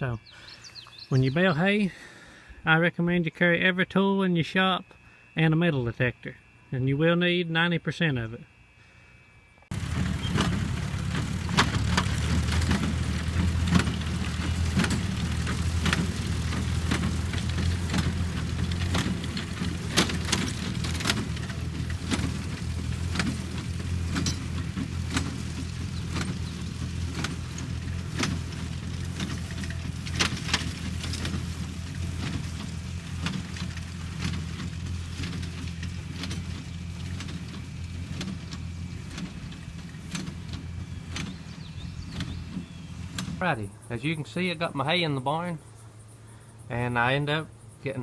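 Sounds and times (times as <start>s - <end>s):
tractor engine running: 0.1s - 2.1s, 9.7s - 48.0s.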